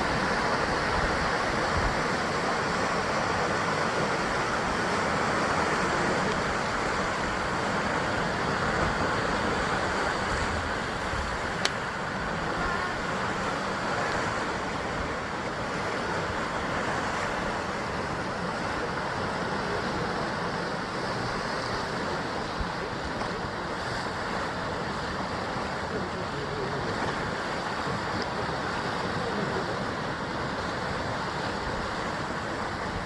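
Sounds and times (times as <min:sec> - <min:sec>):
sea waves washing on rocks: 0:00.0 - 0:33.0.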